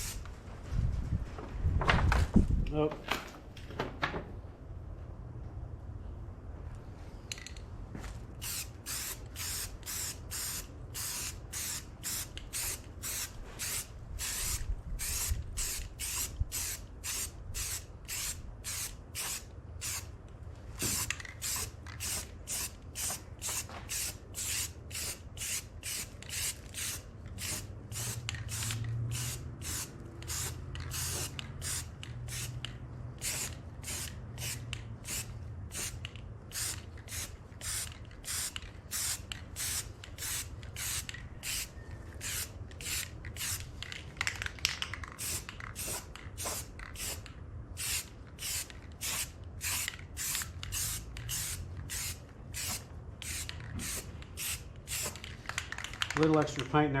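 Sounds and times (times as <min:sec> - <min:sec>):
spray paint bursts: 0:00.0 - 0:00.3, 0:08.4 - 0:20.2, 0:20.8 - 0:56.5.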